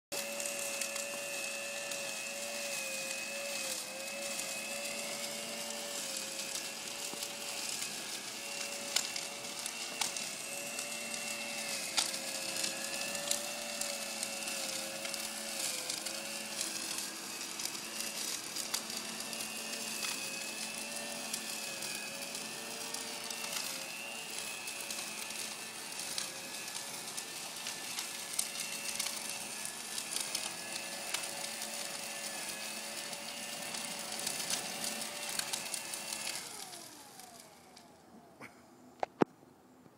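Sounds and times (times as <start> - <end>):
leaf blower running: 0.1 - 39.3.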